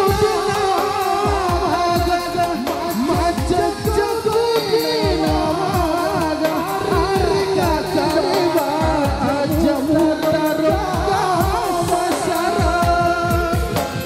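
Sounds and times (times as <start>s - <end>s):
fast drum beat: 0.0s - 14.0s.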